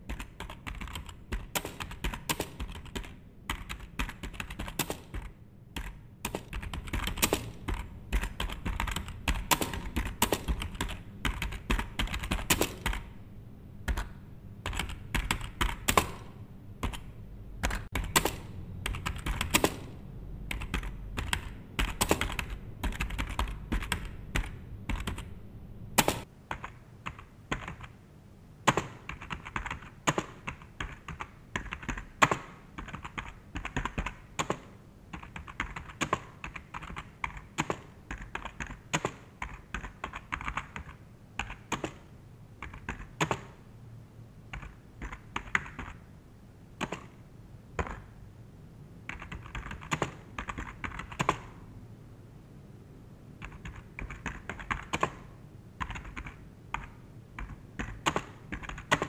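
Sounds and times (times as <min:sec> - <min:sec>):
typing on computer keyboard: 0:00.0 - 0:13.2, 0:13.8 - 0:25.3, 0:26.0 - 0:28.0, 0:28.6 - 0:43.6, 0:44.5 - 0:46.1, 0:46.8 - 0:47.2, 0:47.8 - 0:48.2, 0:49.0 - 0:51.6, 0:53.4 - 0:59.0.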